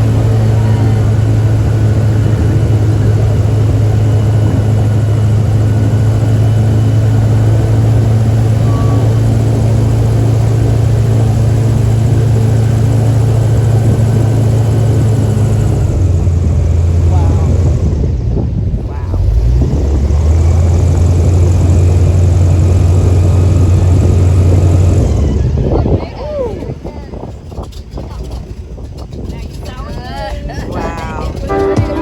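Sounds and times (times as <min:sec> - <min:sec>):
airboat engine drone: 0:00.0 - 0:32.0.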